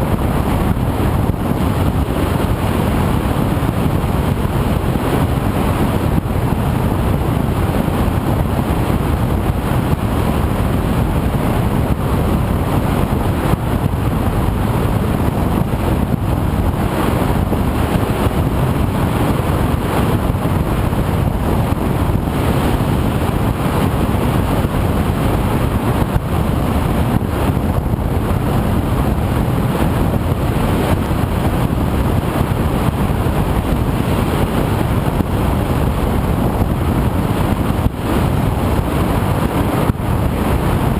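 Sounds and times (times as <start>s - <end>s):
wind rushing: 0.0s - 40.9s.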